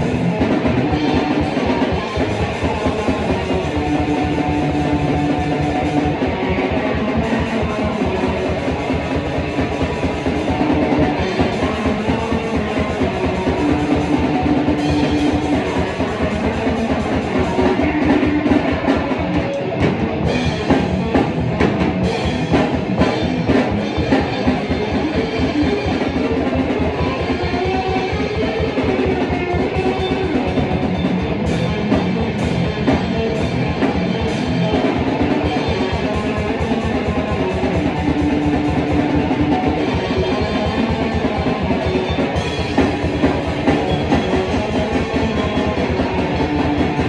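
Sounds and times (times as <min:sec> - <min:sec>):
busy drumming: 0:00.0 - 0:47.0
electric guitar: 0:00.0 - 0:47.0.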